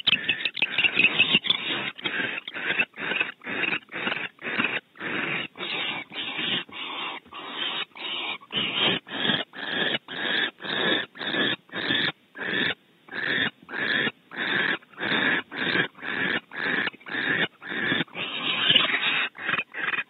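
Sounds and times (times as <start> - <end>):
owl nestlings rasping hisses: 0.0 - 20.0.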